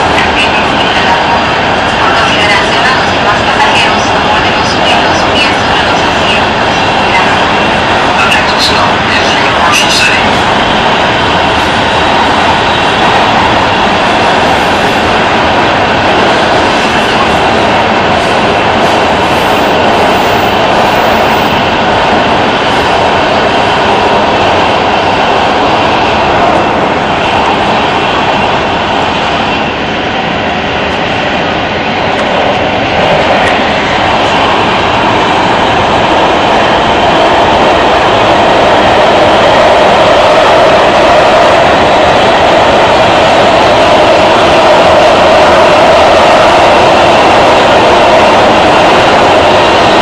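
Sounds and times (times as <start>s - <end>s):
subway train rumbling through tunnel: 0.0s - 50.0s.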